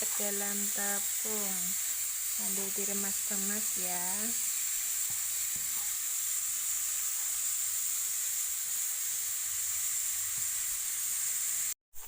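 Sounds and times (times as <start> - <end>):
oil sizzling in a pan: 0.0 - 11.8.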